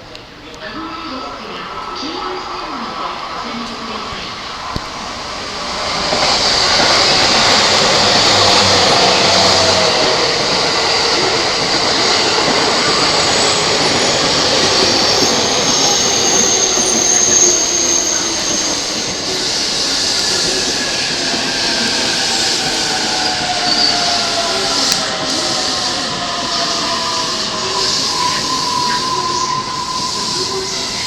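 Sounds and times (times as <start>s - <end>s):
train wheel and rail noise: 0.0s - 31.0s
high wheel squeal: 0.9s - 31.0s.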